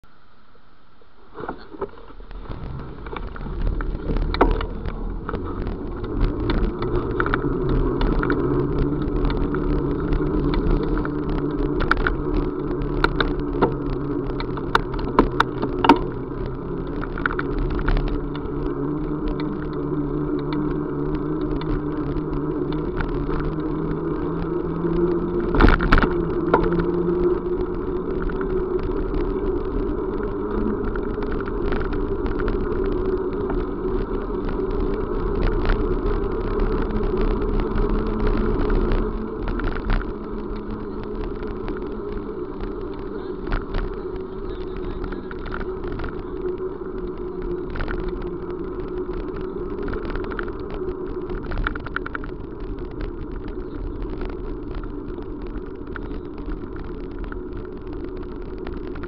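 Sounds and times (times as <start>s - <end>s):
vehicle motor hum: 0.0s - 59.0s
rattles and clicks: 1.3s - 59.0s.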